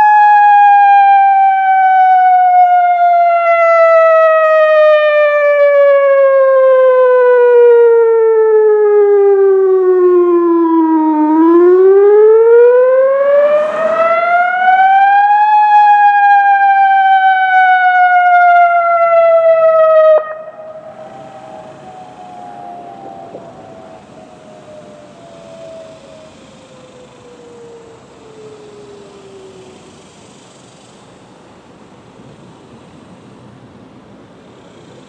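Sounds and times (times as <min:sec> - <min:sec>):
warning siren wailing: 0:00.0 - 0:30.0.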